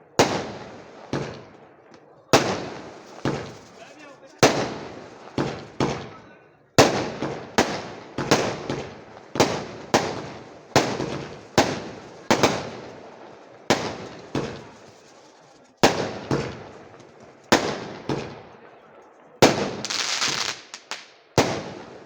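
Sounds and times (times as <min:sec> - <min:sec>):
firecrackers banging: 0:00.1 - 0:22.0.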